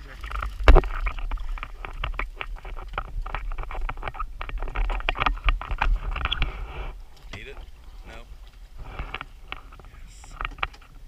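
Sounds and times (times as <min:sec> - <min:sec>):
wind on microphone: 0:00.2 - 0:11.0.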